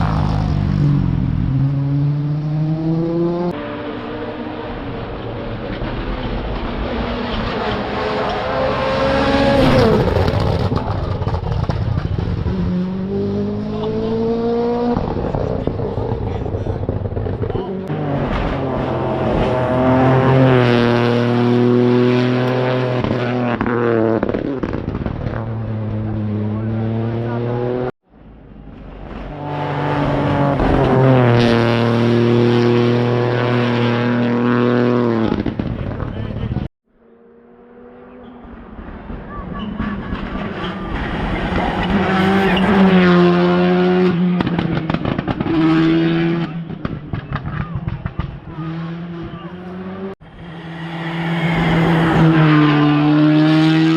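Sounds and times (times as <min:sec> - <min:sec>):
rally car engine passing: 0:00.0 - 0:27.9, 0:28.7 - 0:53.9.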